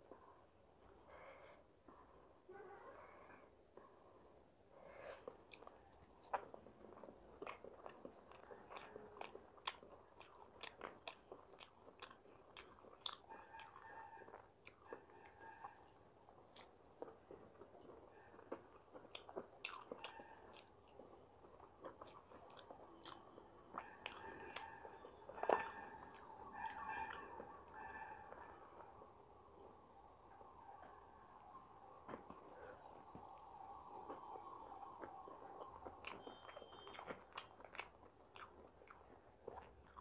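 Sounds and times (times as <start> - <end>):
person chewing food: 3.7 - 31.0, 32.0 - 40.0.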